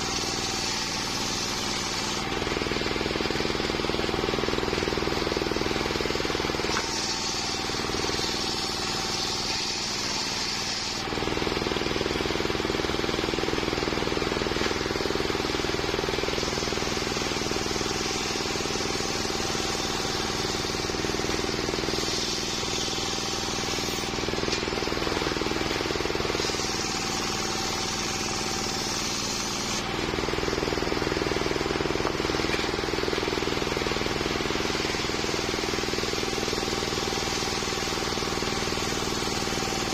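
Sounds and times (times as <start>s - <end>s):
circular saw running: 0.0s - 39.9s
saw blade cutting wood: 0.0s - 39.9s.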